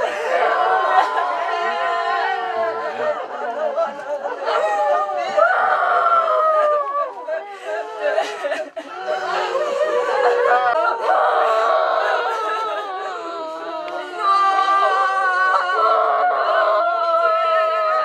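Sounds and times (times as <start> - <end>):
people wailing and sobbing: 0.0 - 18.0.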